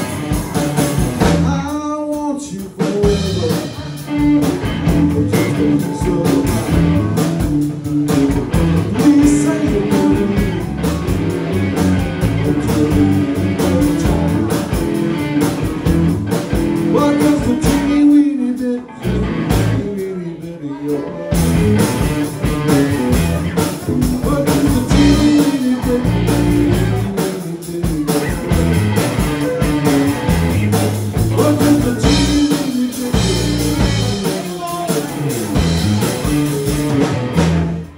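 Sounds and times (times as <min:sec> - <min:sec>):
live rock band playing: 0:00.0 - 0:37.9.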